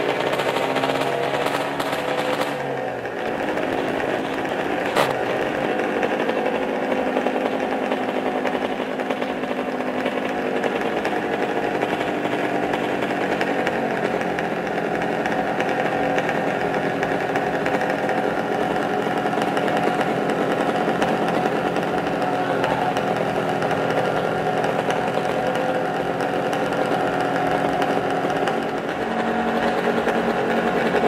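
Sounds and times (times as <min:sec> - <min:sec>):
motorcycle engines droning: 0:00.0 - 0:31.0.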